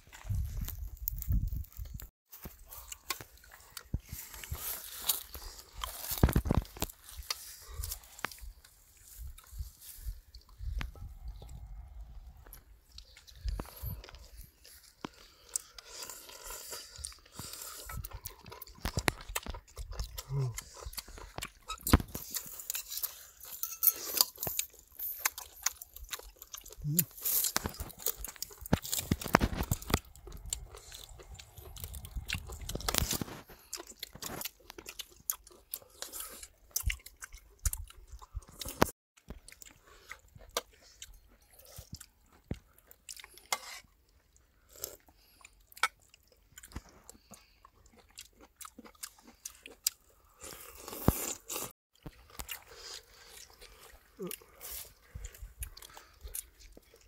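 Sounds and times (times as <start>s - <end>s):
people chewing and crunching food: 0.0s - 57.0s.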